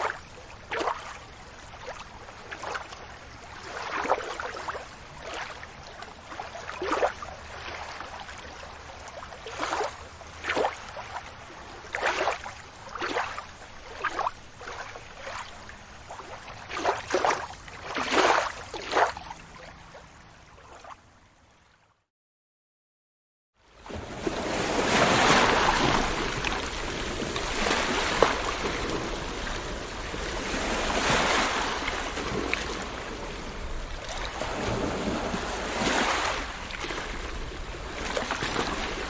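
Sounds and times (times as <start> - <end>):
water lapping and splashing: 0.0 - 21.9, 23.6 - 39.0.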